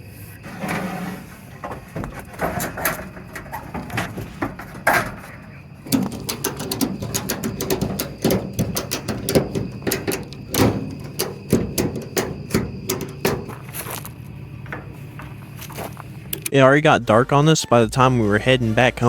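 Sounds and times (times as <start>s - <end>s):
sharp knocks and clanks: 0.5s - 16.5s.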